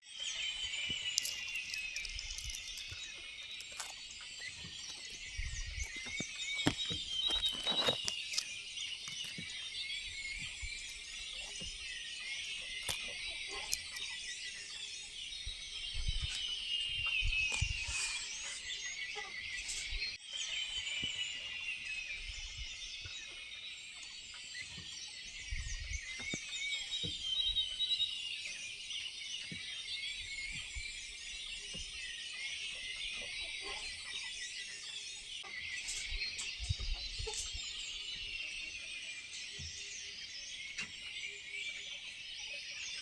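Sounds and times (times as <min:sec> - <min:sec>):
birds chirping and singing: 0:00.1 - 0:43.0.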